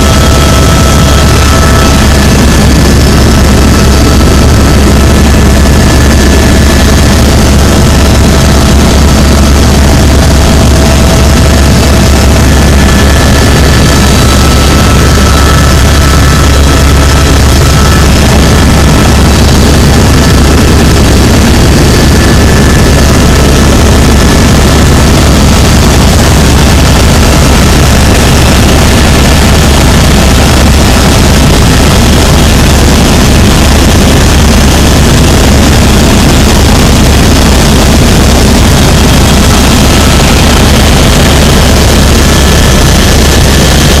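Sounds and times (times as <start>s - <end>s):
helicopter engine and rotor drone: 0.0s - 44.0s.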